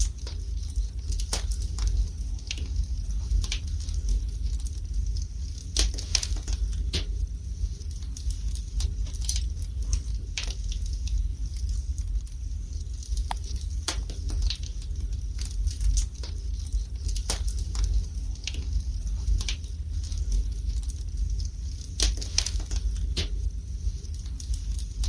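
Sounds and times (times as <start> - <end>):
fire crackling and popping: 0.0 - 25.0
low rumble of fire: 0.0 - 25.0.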